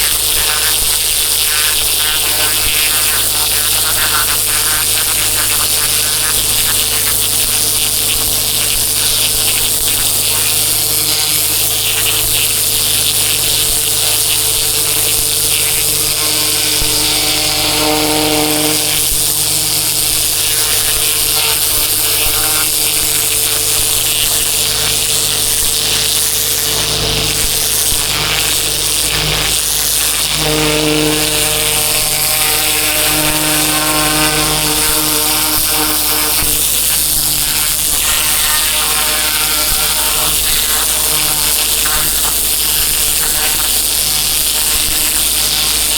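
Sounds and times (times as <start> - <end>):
pressure washer engine running: 0.0 - 45.9
water spray hissing: 0.0 - 45.9.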